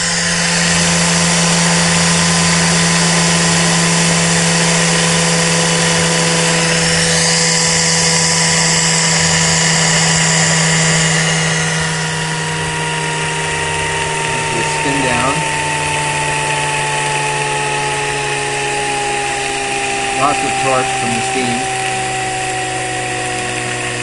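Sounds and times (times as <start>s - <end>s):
turbine whine: 0.0s - 24.0s.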